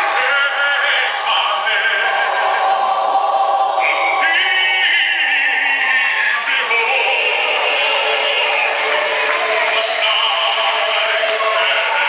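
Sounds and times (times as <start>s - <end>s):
mixed choir singing: 0.0s - 12.0s.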